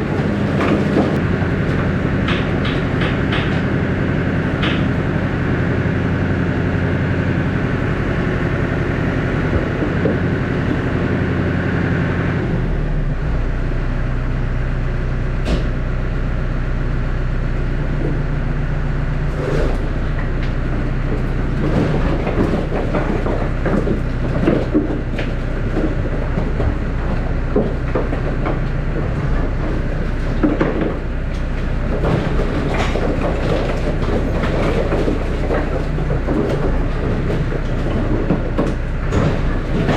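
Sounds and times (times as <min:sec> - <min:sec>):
firewood knocking in trailer: 0:00.0 - 0:12.1, 0:19.3 - 0:39.9
tractor engine running: 0:00.0 - 0:39.9.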